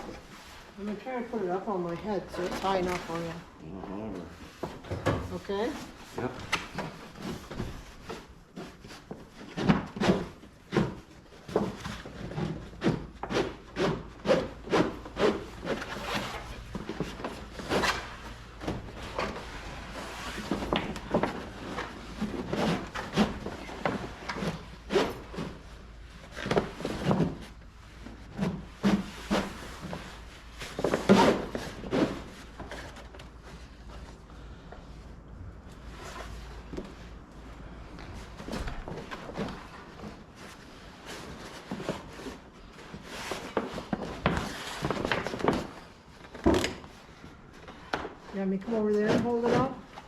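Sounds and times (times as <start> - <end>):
canvas rubbing and scraping: 0.0 - 3.5, 5.3 - 46.3, 47.8 - 50.0.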